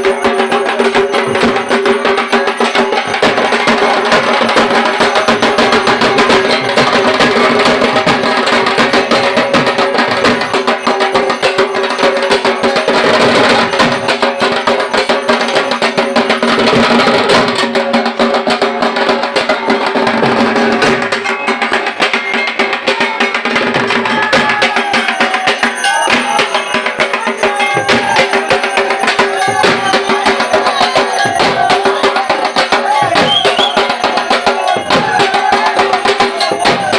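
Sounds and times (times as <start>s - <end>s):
barrel drum beaten with sticks: 0.0s - 36.9s.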